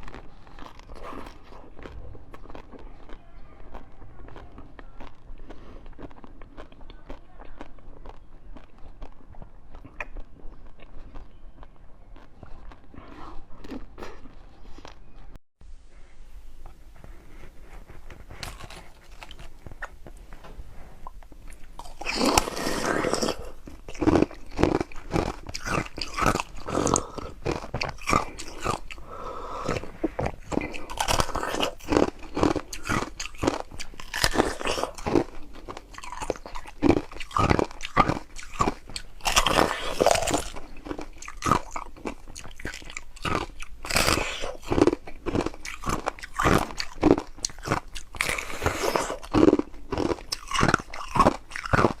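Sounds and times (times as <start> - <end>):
person chewing ice: 0.0 - 15.4, 17.1 - 52.0.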